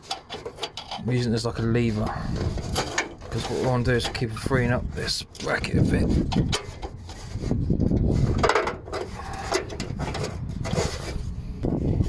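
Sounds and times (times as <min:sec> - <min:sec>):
metal scraping and knocking: 0:00.0 - 0:12.0.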